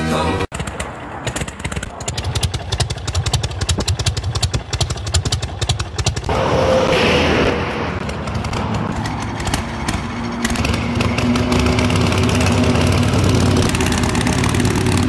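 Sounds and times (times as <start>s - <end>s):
motorcycle engine passing by: 0.6s - 15.0s.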